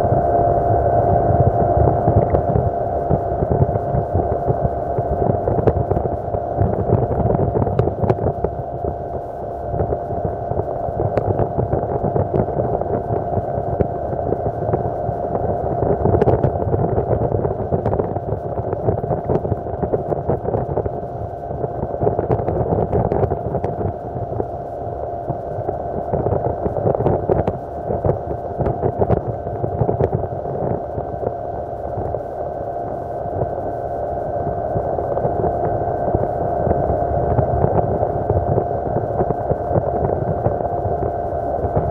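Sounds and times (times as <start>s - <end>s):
outboard motor droning: 0.0s - 41.9s.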